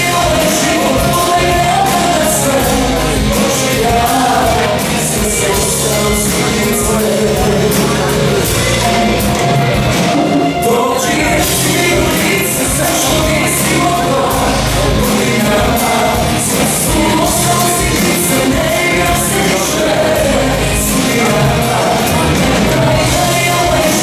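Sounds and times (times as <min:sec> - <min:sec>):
pop song with woman singing: 0:00.0 - 0:09.1, 0:10.6 - 0:24.0.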